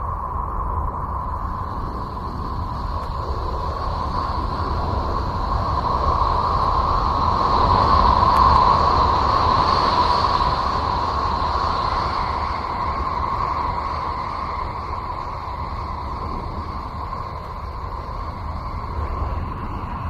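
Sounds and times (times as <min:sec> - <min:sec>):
noisy drone with hum: 0:00.0 - 0:20.0.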